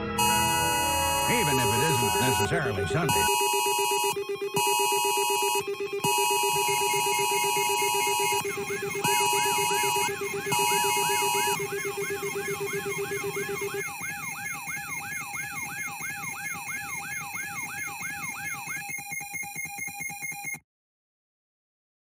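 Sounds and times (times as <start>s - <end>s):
electronic alarm tone sweeping: 0.0s - 20.6s
fast buzzing pulse: 0.0s - 20.6s.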